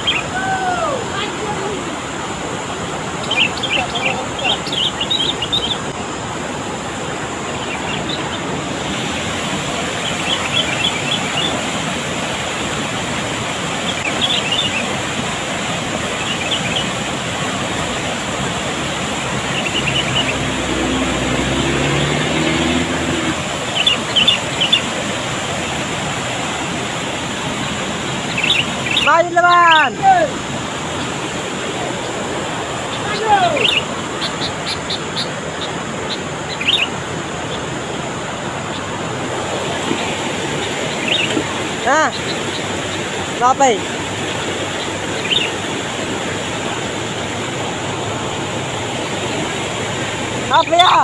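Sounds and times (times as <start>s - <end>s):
fast river rushing: 0.0s - 51.0s.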